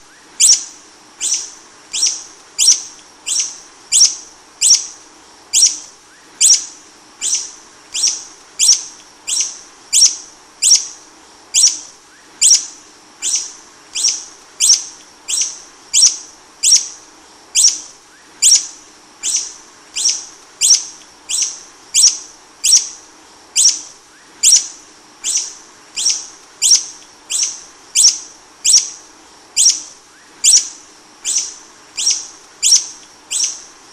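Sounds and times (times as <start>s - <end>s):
hummingbird chip notes: 0.0s - 17.0s, 17.6s - 33.9s.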